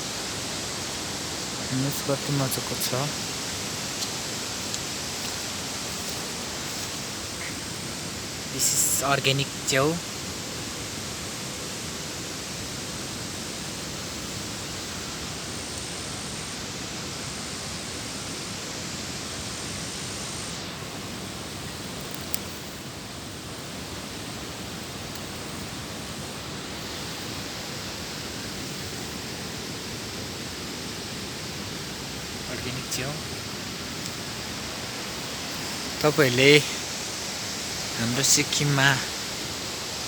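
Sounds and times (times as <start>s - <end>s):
rushing falling water: 0.0s - 40.0s.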